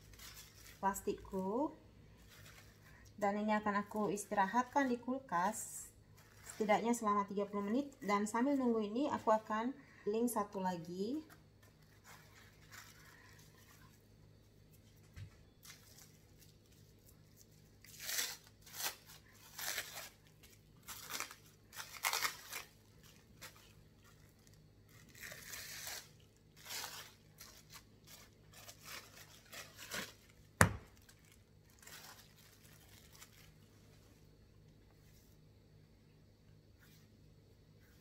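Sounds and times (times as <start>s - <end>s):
plastic wrap crinkling: 0.0s - 35.0s.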